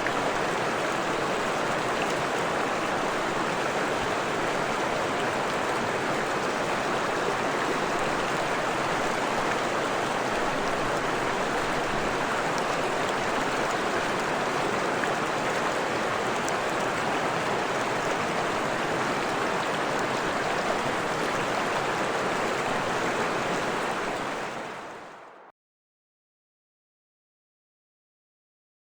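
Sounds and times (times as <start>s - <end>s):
stream running over rocks: 0.0s - 25.4s.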